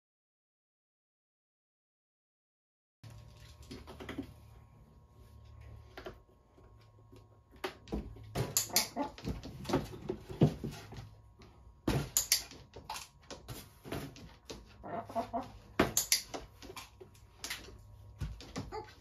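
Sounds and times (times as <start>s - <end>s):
faint steady hum: 3.0s - 19.0s.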